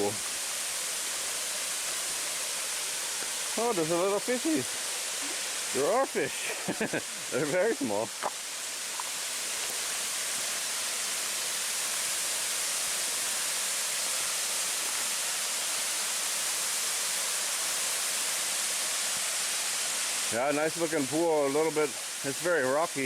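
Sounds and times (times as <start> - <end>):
waterfall pouring into pool: 0.0 - 23.0.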